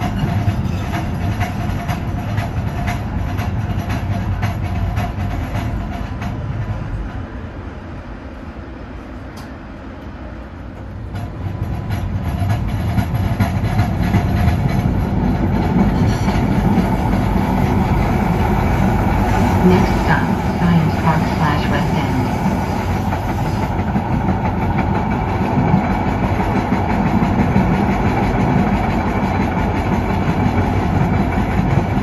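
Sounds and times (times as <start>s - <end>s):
wheels clicking on track: 0.0s - 7.0s, 10.7s - 32.0s
light-rail train running noise: 0.0s - 32.0s.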